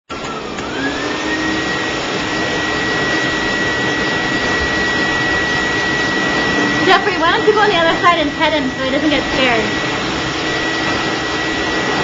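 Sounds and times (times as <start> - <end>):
blow dryer motor whine: 0.1 - 12.0.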